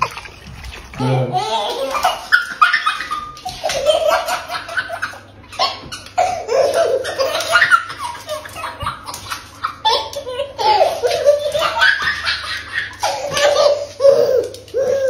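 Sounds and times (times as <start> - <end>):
toddler laughing: 1.0 - 15.0.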